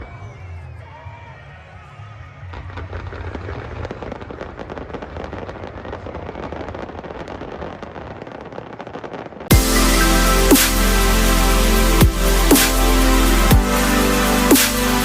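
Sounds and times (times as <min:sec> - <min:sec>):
fireworks crackling: 0:02.4 - 0:15.0.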